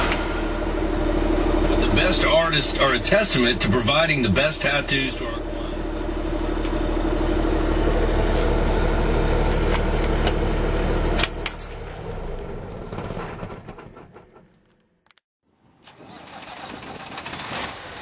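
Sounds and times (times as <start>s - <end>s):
diesel truck engine running: 0.0s - 14.7s.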